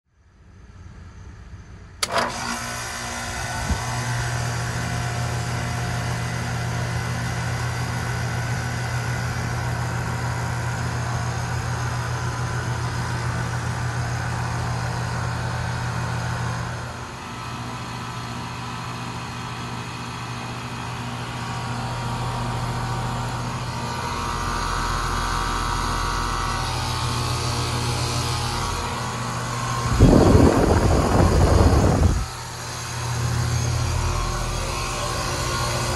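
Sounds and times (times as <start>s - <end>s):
compressor humming: 0.7s - 35.9s
condenser fan rushing: 0.7s - 35.9s.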